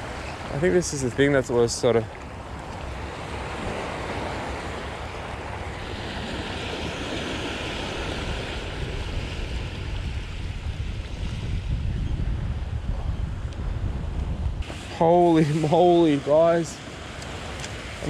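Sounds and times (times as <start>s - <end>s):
small waves washing on beach: 0.0s - 11.8s, 12.6s - 18.0s
wind buffeting microphone: 0.0s - 18.0s.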